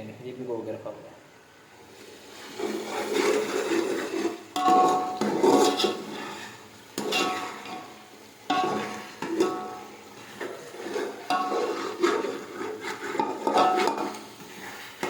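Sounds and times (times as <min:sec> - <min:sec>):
metal spoon scraping pot: 0:02.3 - 0:15.0.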